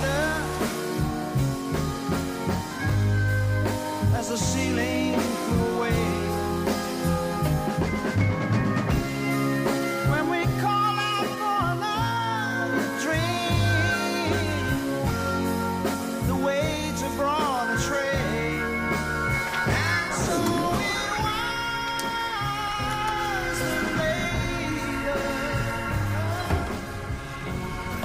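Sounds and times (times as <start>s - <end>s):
rock song with singer: 0.0s - 28.0s.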